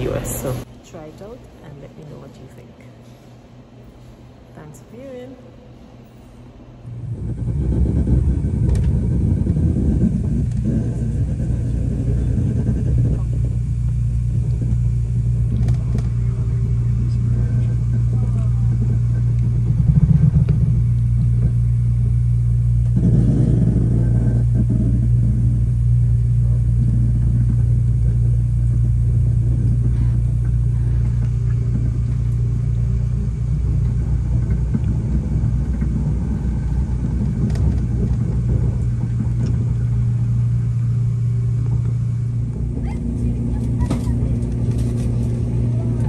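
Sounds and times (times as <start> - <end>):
train rumbling inside carriage: 0.0 - 1.4, 6.8 - 46.0.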